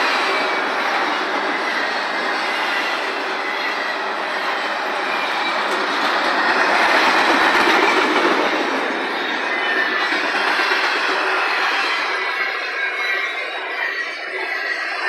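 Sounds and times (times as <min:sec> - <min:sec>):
steel wheels on rail: 0:00.0 - 0:15.0.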